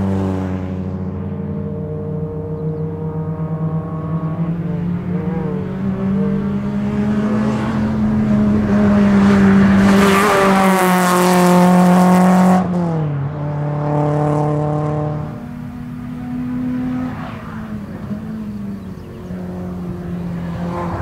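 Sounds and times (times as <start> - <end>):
race car engine passing: 0.0 - 21.0.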